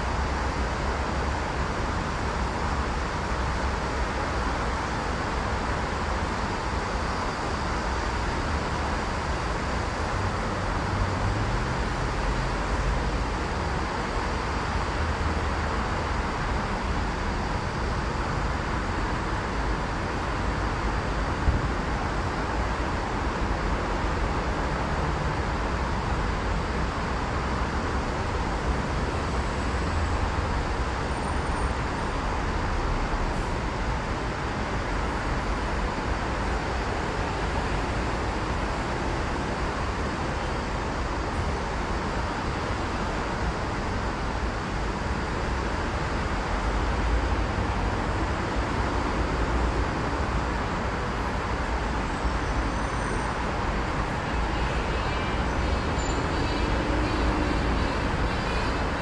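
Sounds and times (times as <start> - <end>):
city road traffic hum: 0.0 - 59.0.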